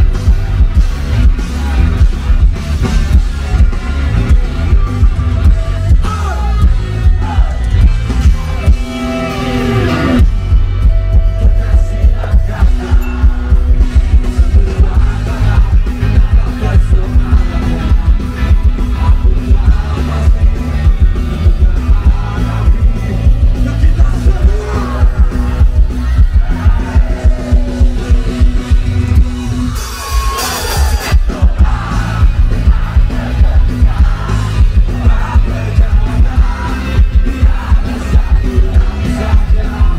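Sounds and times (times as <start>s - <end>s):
live rock band playing: 0.0s - 39.9s
sliding guitar line: 0.0s - 39.9s.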